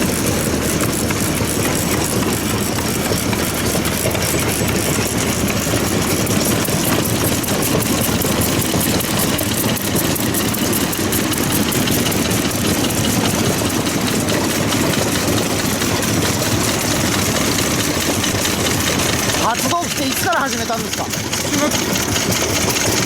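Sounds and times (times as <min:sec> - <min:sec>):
stationary engines idling: 0:00.0 - 0:23.0.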